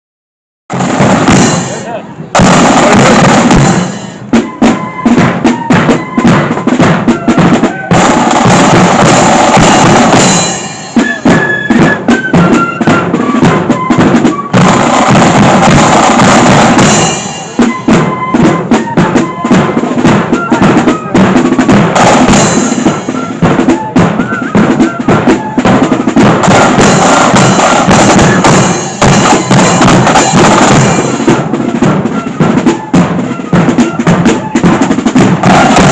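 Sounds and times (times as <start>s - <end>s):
bass drum: 0.7s - 4.5s, 5.2s - 10.6s, 11.3s - 35.9s
flute melody: 0.7s - 35.9s
snare drums rattling: 0.7s - 35.9s
snare rolls: 0.7s - 35.9s.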